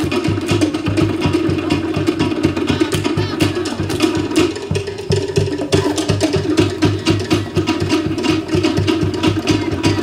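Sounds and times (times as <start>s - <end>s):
slit log drums beating: 0.0s - 10.0s.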